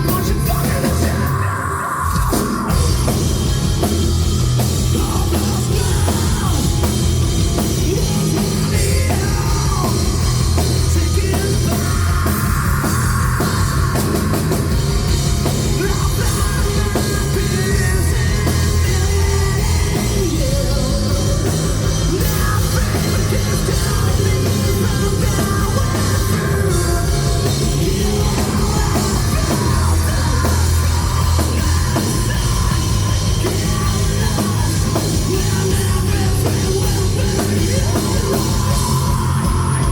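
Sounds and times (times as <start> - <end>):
drum kit beat: 0.0 - 1.4, 2.1 - 39.9
metal band playing live: 0.0 - 39.9.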